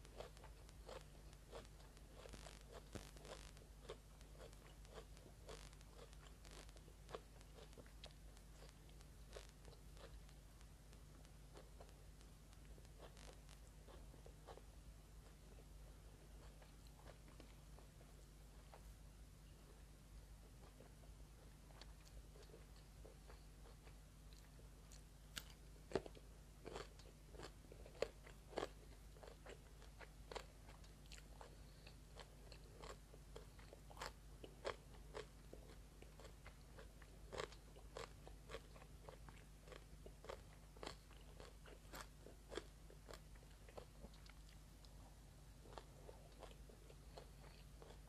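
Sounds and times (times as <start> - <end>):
person chewing food: 0.0 - 10.4, 11.1 - 18.9, 20.4 - 48.0
faint low hum: 0.0 - 48.0.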